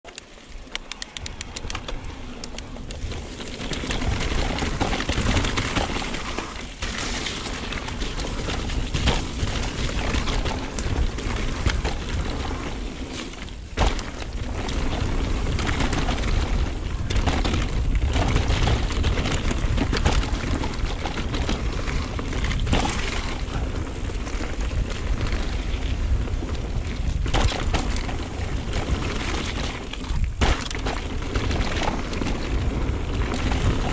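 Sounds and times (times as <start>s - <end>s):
bike knocking and rattling: 0.1s - 33.9s
tyres rolling over dirt: 0.1s - 33.9s
wind rushing across microphone: 0.8s - 33.9s.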